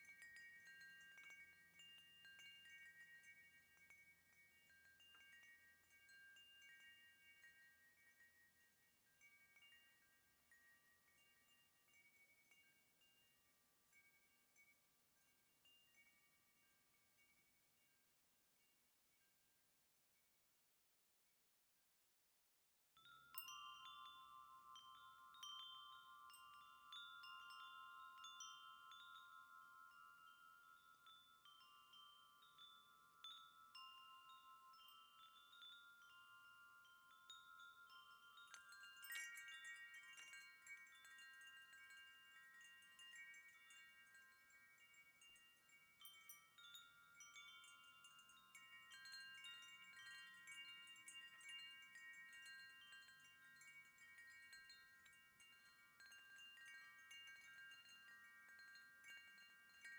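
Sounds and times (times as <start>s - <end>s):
wind chimes ringing: 0.0s - 17.4s, 23.0s - 59.9s.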